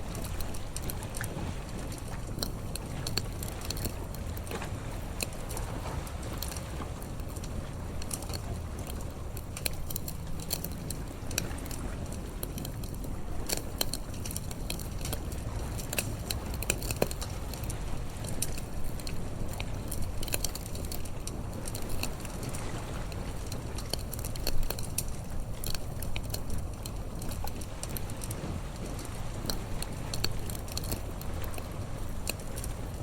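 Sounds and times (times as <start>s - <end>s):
bonfire crackling: 0.0s - 33.0s
low steady rumble: 0.0s - 33.0s.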